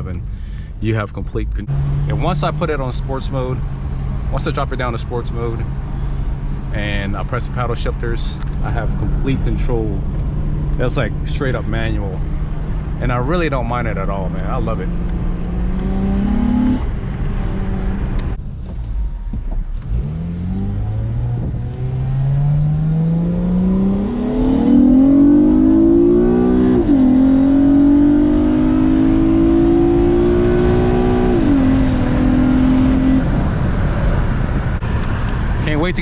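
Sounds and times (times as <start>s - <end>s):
car engine accelerating hard: 0.9s - 36.0s.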